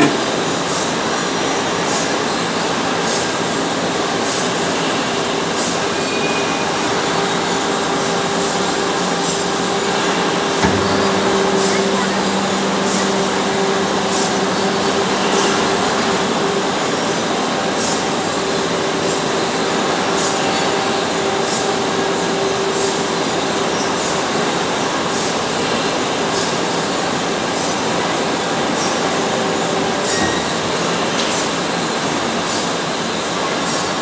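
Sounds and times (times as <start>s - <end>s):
hydraulic power unit hum and hiss: 0.0s - 34.0s.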